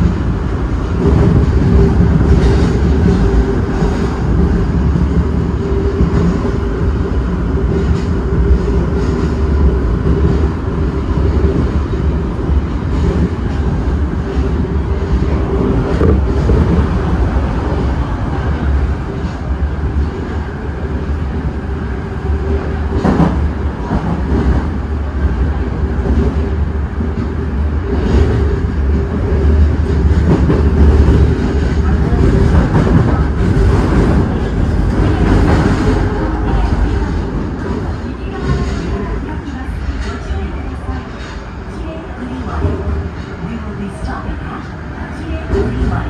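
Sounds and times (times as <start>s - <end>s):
train rattle: 0.0s - 46.0s
train wheels rumbling on rail: 0.0s - 46.0s.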